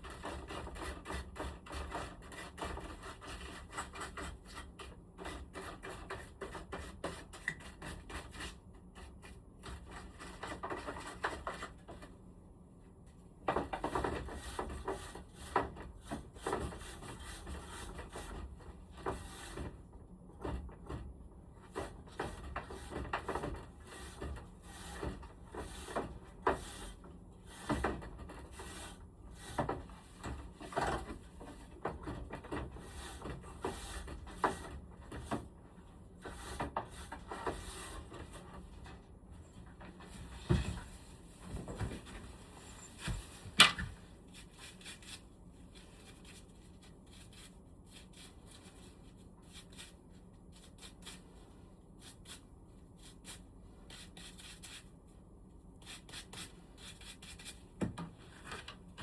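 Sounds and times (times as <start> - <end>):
rubbing and scraping of parts: 0.0 - 12.2, 13.4 - 55.0.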